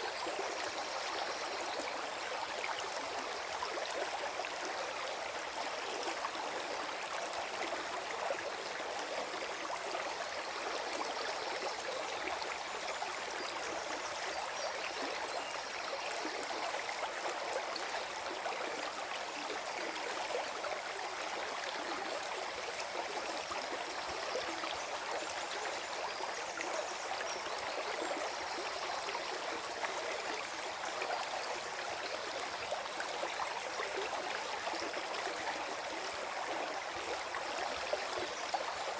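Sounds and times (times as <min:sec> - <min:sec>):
stream gurgling over stones: 0:00.0 - 0:38.9.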